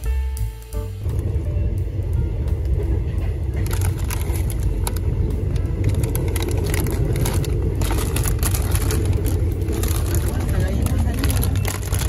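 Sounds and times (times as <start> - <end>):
vehicle rumble from inside: 1.0 - 12.0
sharp clicks and rattles: 2.0 - 12.0.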